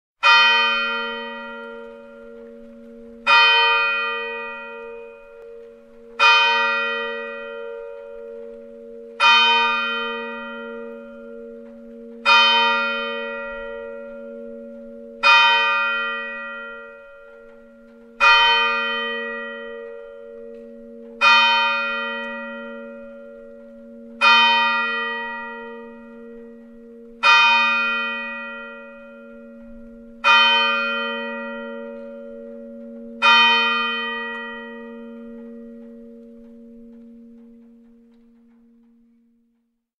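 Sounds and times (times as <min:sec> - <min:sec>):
church bell tolling: 0:00.2 - 0:39.7.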